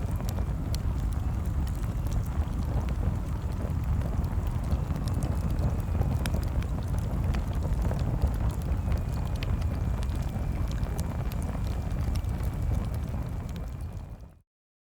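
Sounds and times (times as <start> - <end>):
burning wood popping and crackling: 0.0 - 14.2
bonfire flames rumbling: 0.0 - 14.4.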